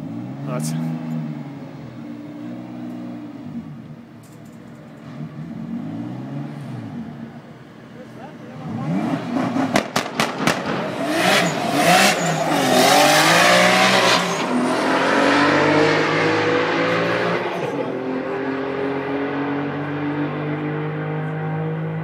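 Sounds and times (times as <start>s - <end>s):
car engine at full throttle: 0.0s - 22.0s.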